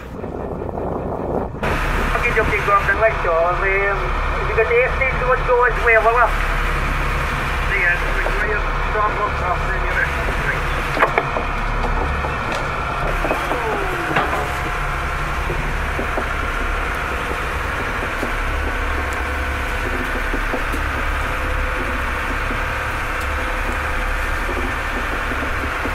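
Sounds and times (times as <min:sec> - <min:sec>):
boat engine rumbling: 0:00.0 - 0:25.9.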